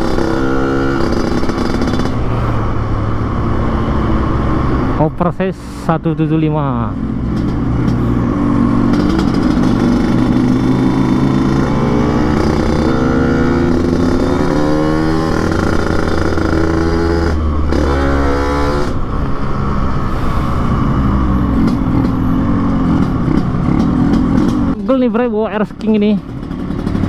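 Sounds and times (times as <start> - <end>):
raspy two-stroke motorcycle revving: 0.0 - 5.1, 6.2 - 20.0, 20.6 - 27.0.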